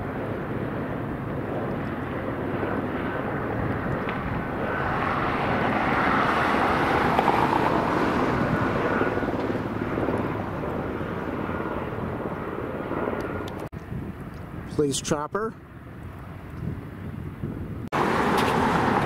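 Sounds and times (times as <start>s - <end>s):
jet engine with high whine: 0.0s - 19.0s.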